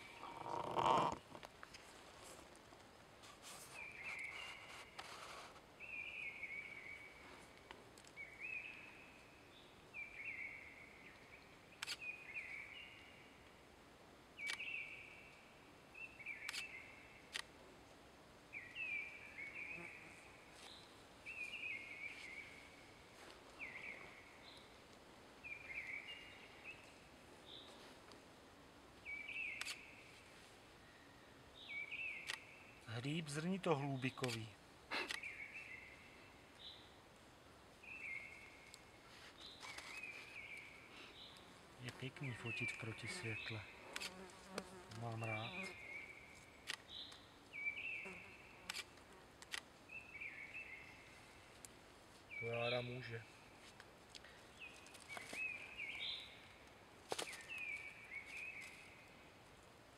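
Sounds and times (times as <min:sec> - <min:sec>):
songbird singing: 0:00.0 - 0:01.5, 0:03.6 - 0:13.6, 0:14.3 - 0:17.6, 0:18.5 - 0:27.9, 0:29.0 - 0:59.4.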